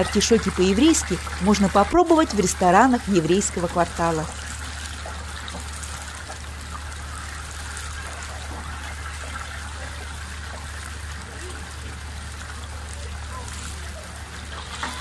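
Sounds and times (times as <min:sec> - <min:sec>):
oil bubbling and sizzling: 0:00.0 - 0:15.0.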